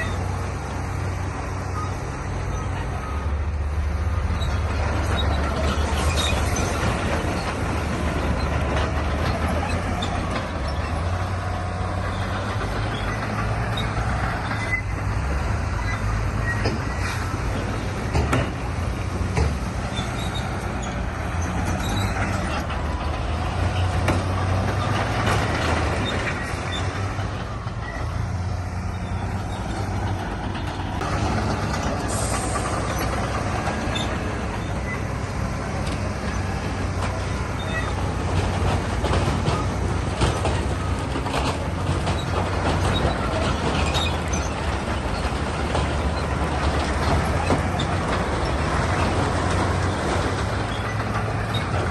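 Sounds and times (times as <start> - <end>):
diesel machinery engine drone: 0.0 - 51.9
metallic clanks and rattles: 4.2 - 51.9.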